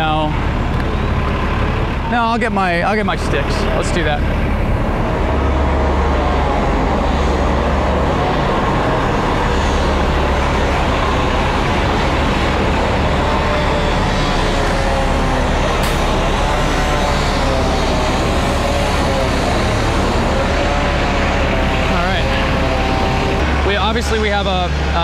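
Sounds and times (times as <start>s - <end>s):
diesel engine deep rumble: 0.0s - 25.0s.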